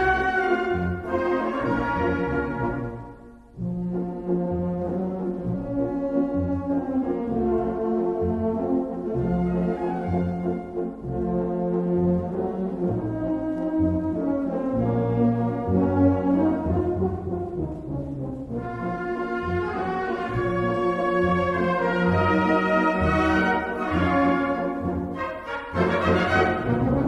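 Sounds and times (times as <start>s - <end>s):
slow brass instrumental music: 0.0s - 27.0s.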